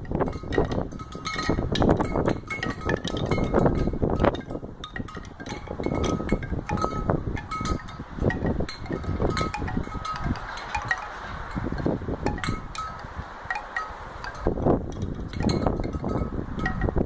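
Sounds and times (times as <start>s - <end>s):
gusty wind rumble: 0.0s - 17.0s
wind chimes ringing: 0.0s - 17.0s.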